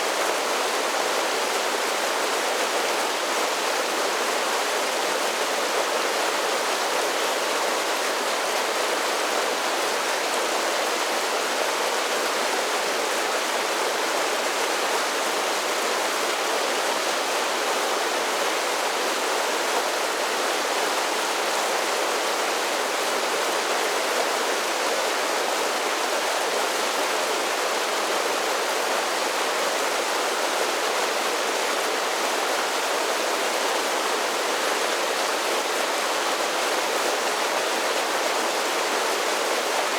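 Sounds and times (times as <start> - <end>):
creek rushing over small waterfalls: 0.0 - 39.9.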